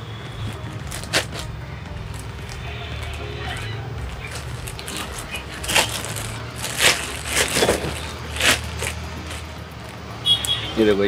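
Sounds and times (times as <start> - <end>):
plastic bag crinkling: 0.4 - 9.5.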